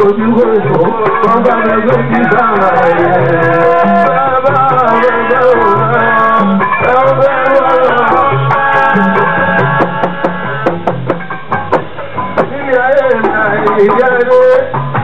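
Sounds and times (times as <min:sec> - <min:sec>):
man singing into microphone: 0:00.0 - 0:10.8, 0:12.4 - 0:15.0
drums and percussion: 0:00.0 - 0:15.0.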